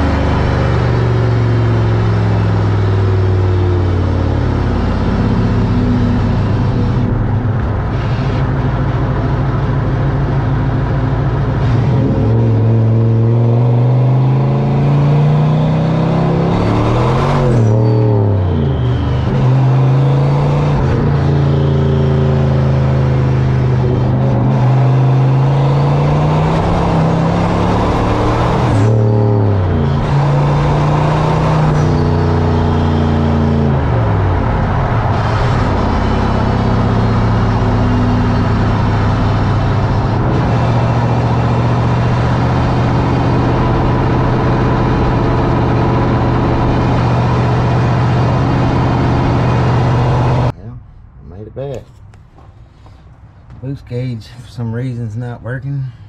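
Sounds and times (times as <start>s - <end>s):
car engine accelerating: 0.0s - 56.0s
road and wind noise: 0.0s - 56.0s.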